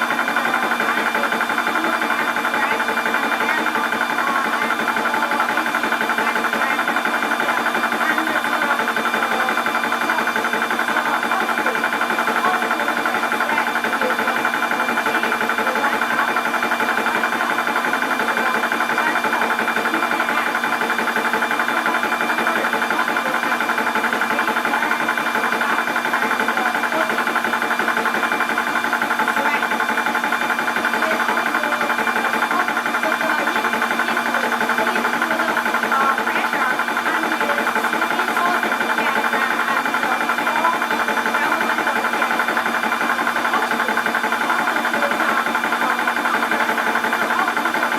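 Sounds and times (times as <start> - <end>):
air compressor pumping: 0.0 - 47.9.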